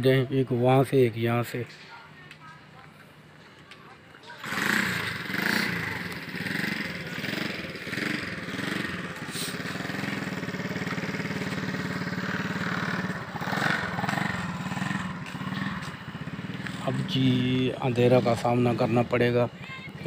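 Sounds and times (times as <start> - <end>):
faint voices: 0.0 - 11.8, 15.0 - 20.0
engine humming: 2.8 - 20.0.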